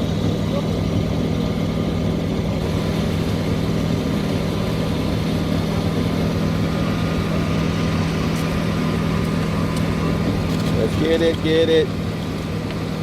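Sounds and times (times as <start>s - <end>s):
heavy engine humming: 0.0s - 13.0s.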